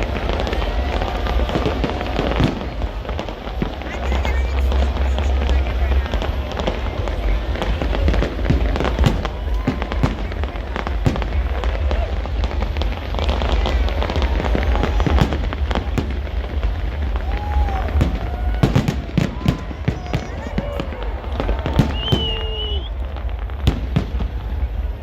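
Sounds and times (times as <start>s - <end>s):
fireworks bangs and crackles: 0.0s - 25.0s
low rumble: 0.0s - 25.0s.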